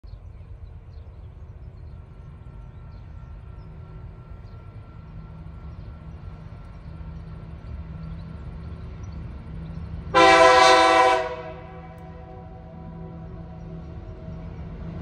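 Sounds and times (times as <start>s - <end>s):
distant diesel locomotives rumbling: 0.0s - 15.0s.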